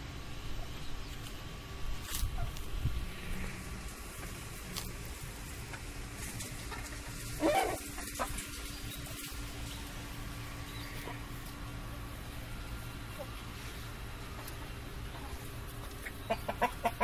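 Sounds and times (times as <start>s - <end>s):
steady low rumbling: 0.0s - 17.0s.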